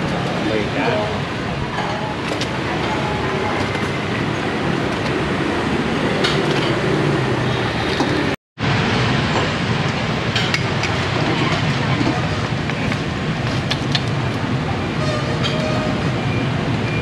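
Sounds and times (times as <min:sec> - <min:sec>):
boiling water rumbling: 0:00.0 - 0:17.0.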